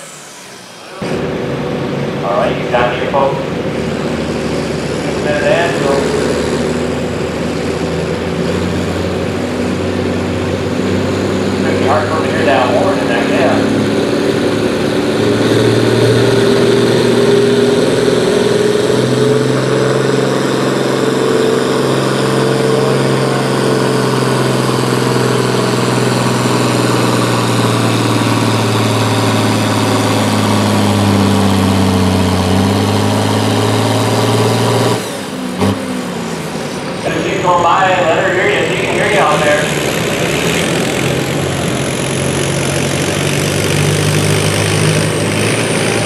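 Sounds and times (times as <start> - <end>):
tractor engine running hard: 0.0 - 46.0.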